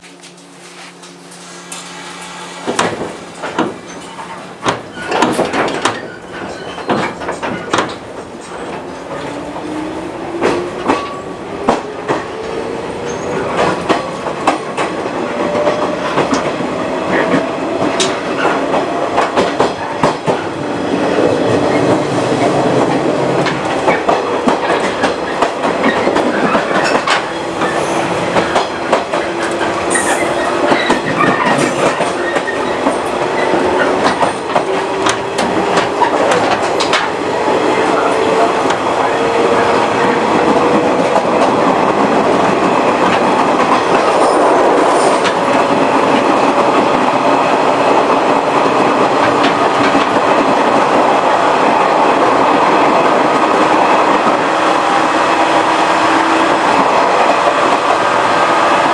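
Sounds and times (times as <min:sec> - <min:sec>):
train running noise: 0:00.0 - 0:58.9
wheels clacking on rail joints: 0:00.0 - 0:58.9.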